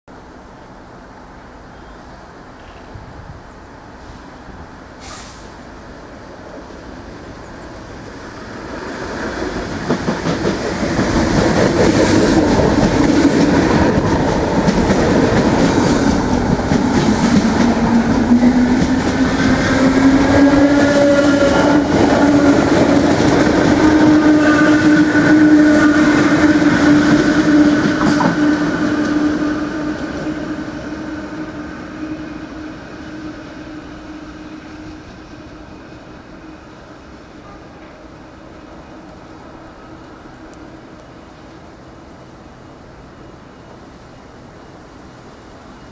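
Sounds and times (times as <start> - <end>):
train passing: 0.2 - 45.9.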